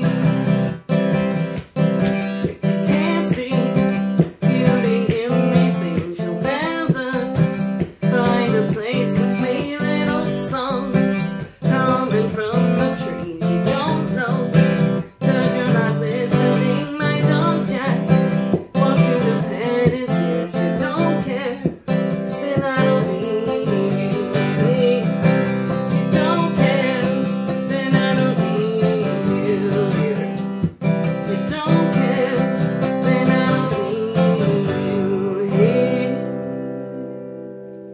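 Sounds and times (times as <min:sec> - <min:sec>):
woman singing: 0:00.0 - 0:37.6
strummed acoustic guitar: 0:00.0 - 0:37.9.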